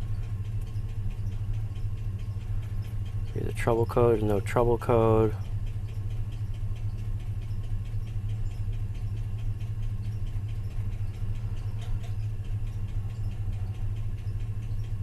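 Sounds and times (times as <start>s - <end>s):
light repeated ticking: 0.0s - 15.0s
truck engine idling: 0.0s - 15.0s.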